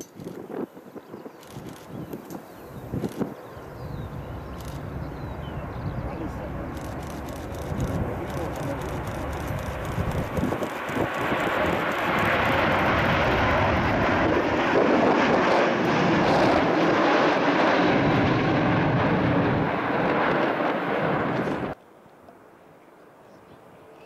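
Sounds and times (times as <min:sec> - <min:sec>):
jet engine roar: 0:00.0 - 0:21.8.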